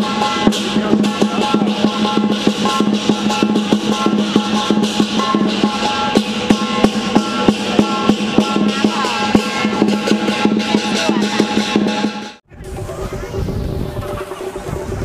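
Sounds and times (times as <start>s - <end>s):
fast steady drumbeat: 0.0s - 15.0s.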